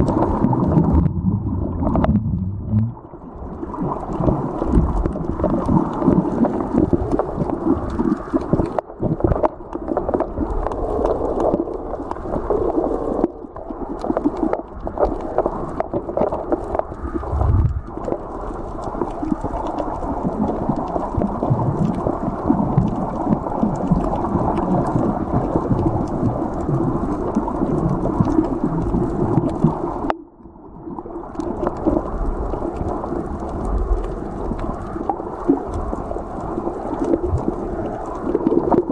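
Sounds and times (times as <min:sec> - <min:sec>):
underwater rush of water: 0:00.0 - 0:38.9.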